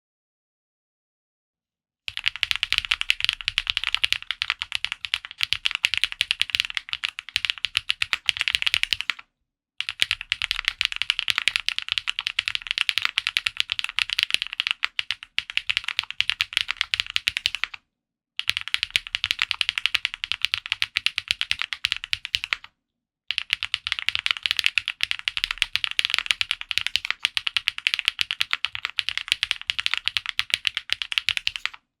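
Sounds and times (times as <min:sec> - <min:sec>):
mechanical keyboard typing: 0:02.1 - 0:09.2, 0:09.8 - 0:17.8, 0:18.4 - 0:22.7, 0:23.3 - 0:31.8.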